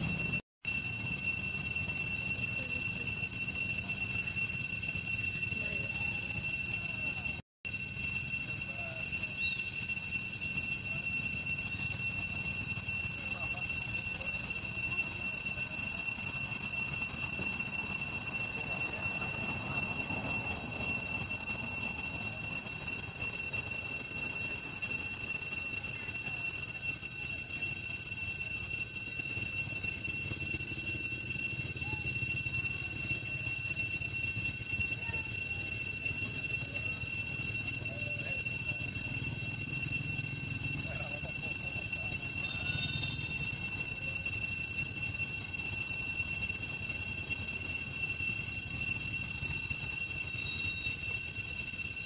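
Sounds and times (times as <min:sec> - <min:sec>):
high-pitched insect drone: 0:00.0 - 0:52.0.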